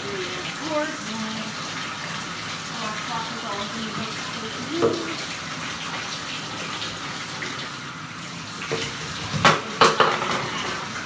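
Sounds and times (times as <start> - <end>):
water running from tap: 0.0 - 11.0
water splashing in tub: 0.0 - 11.0.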